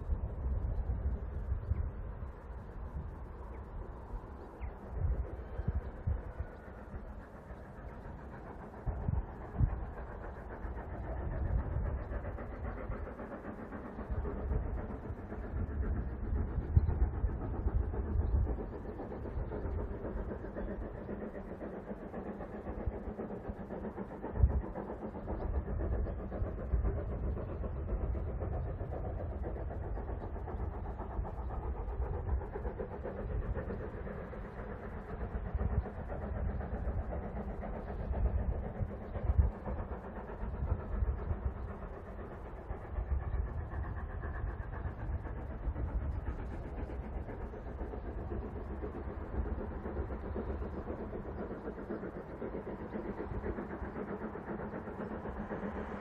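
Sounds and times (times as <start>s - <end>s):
distant steam locomotive rumble: 0.0s - 56.0s.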